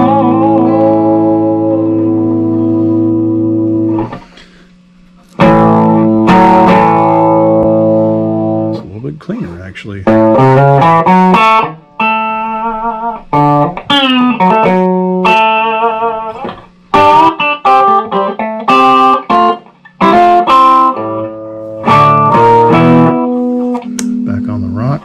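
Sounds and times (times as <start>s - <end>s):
electric guitar picking notes and chords: 0.0s - 4.6s, 5.2s - 9.0s, 9.9s - 25.0s.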